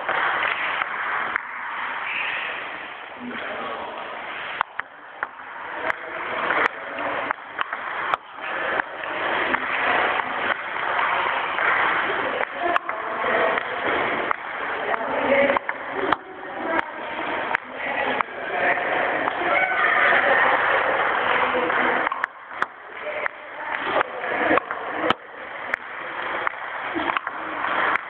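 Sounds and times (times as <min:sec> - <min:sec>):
din of voices: 0:02.0 - 0:28.0.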